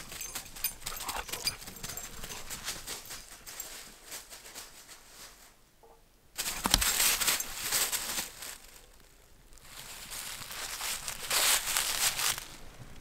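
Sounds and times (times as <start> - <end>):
dog paws crunching dry leaves: 0.0 - 5.5, 6.4 - 12.7.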